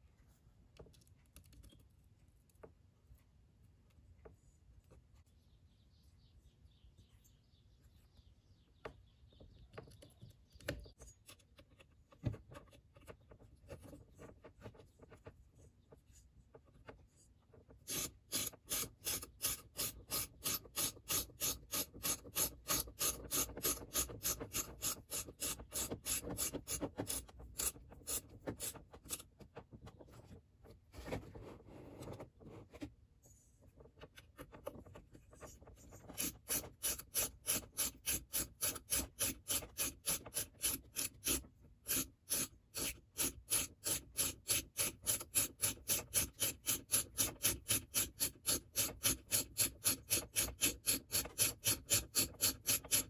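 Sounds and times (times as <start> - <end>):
fingers handling plastic and metal parts: 0.6 - 5.2, 8.9 - 53.0.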